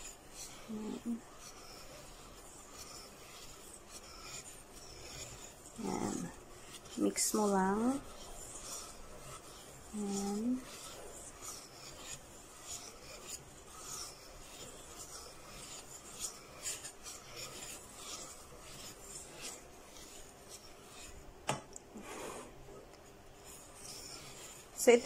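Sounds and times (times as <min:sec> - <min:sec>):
whisk scraping in metal bowl: 0:00.0 - 0:25.0.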